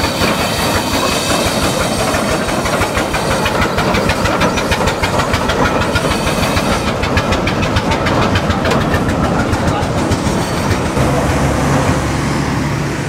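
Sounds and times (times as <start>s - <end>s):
carriages rattling on track: 0.0s - 13.0s
steam hissing: 0.0s - 13.0s
steam locomotive exhaust beat: 0.0s - 13.0s.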